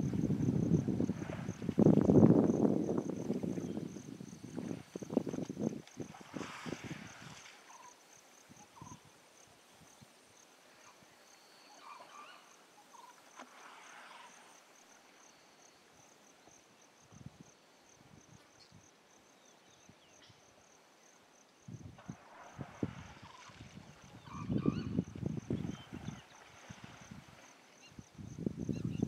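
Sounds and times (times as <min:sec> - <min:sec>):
insect chirping: 0:00.0 - 0:29.0.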